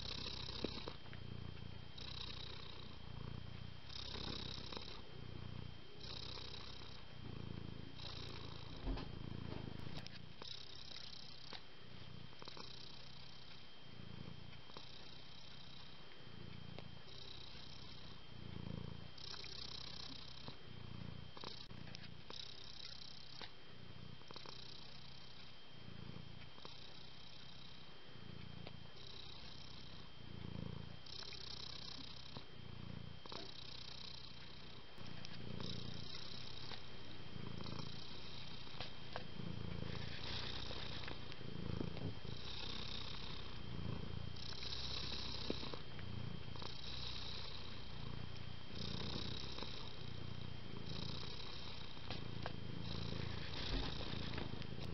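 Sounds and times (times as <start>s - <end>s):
cat purring: 0.0s - 54.9s.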